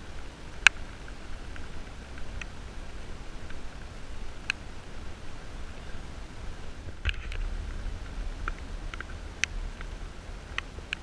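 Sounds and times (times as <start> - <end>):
low wind rumble on microphone: 0.0 - 11.0
sharp ticks of raindrops: 0.0 - 11.0.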